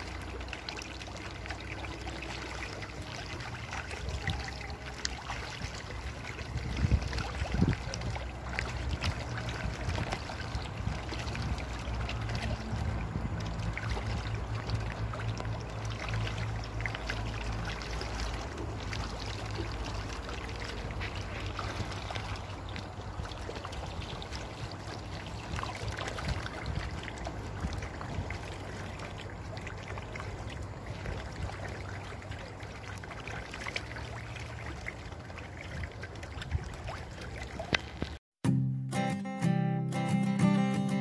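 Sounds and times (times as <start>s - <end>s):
running trickling water: 0.0s - 38.2s
small splashes: 0.0s - 38.2s.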